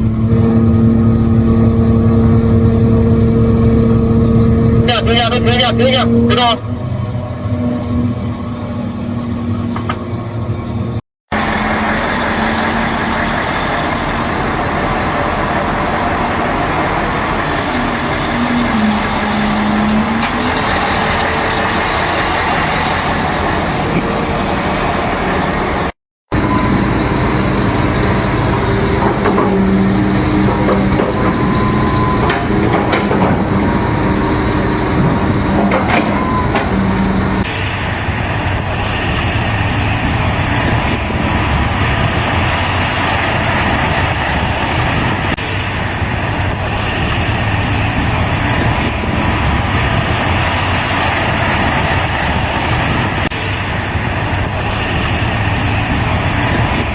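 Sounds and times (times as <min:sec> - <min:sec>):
heavy machinery engines running: 0:00.0 - 0:56.9.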